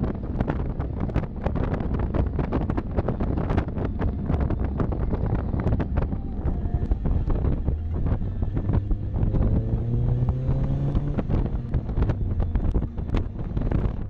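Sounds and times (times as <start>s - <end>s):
car road rumble: 0.0s - 14.0s
wind buffeting microphone: 0.0s - 14.0s
car engine accelerating: 0.3s - 14.0s.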